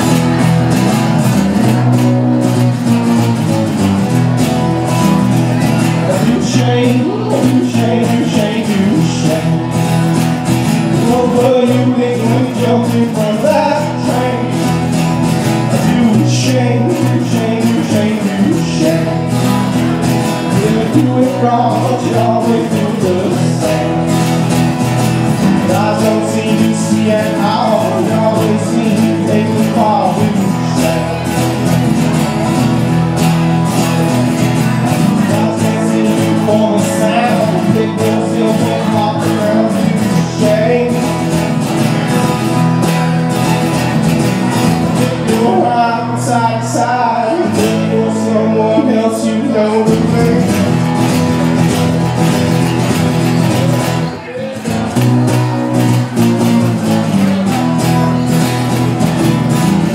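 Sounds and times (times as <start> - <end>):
acoustic guitars strummed: 0.0 - 59.9
bass guitar: 0.0 - 59.9.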